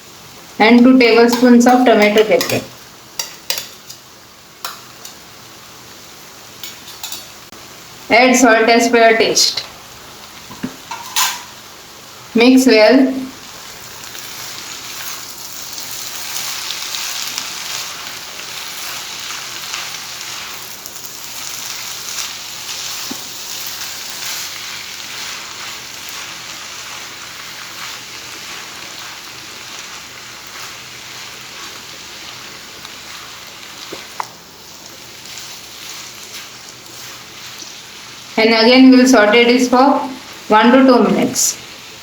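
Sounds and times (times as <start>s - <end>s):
filling sizzling in a hot pan: 0.0s - 42.0s.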